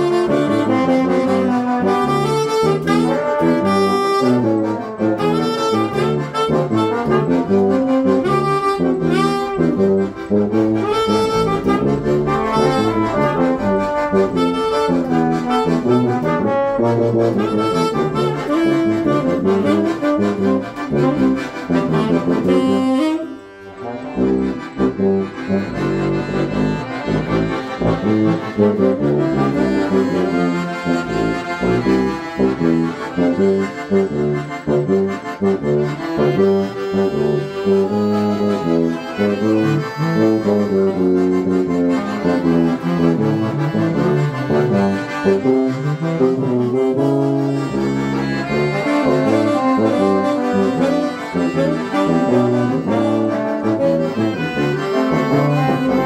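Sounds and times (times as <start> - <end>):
brass and accordion ensemble playing hymn: 0.0 - 56.0.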